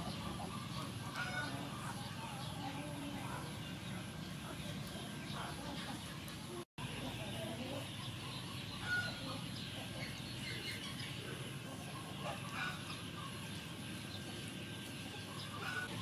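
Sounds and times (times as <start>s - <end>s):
birds chirping: 0.0s - 16.0s
chickens clucking: 0.0s - 16.0s.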